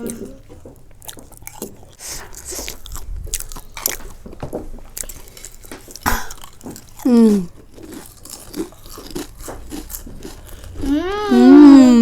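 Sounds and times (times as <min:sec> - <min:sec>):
chewing crisp snack food: 0:00.0 - 0:12.0.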